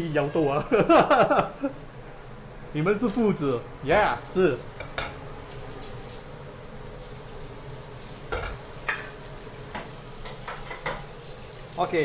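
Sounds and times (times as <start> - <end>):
woks frying sizzle: 0.2 - 12.0.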